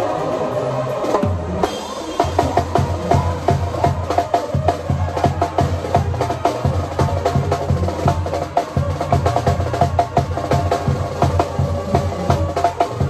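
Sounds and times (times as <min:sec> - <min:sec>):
drum kit beat: 0:01.2 - 0:13.0.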